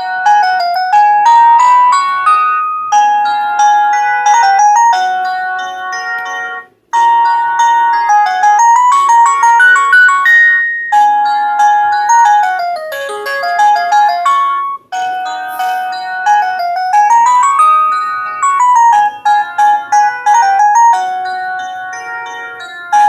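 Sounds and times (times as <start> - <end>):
polyphonic ringtone melody: 0.0 - 23.0.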